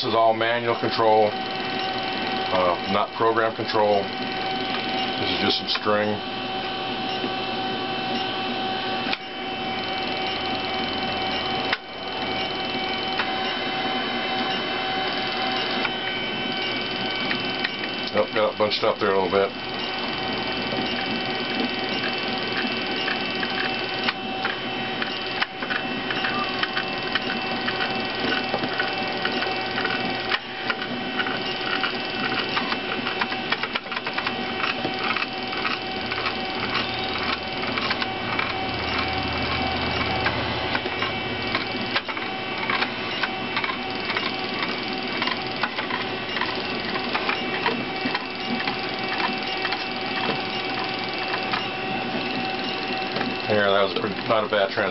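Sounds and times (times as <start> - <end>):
stepper motors whining and ticking: 0.0 - 54.9.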